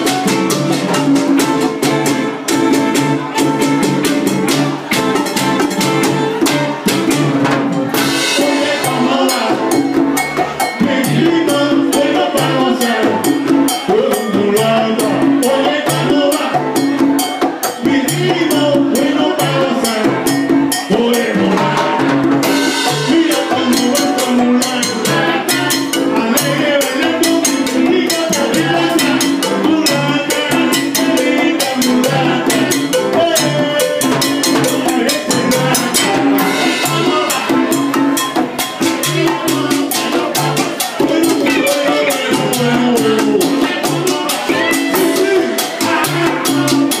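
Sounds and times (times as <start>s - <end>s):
drum kit and percussion rhythm: 0.0s - 47.0s
live salsa band playing: 0.0s - 47.0s.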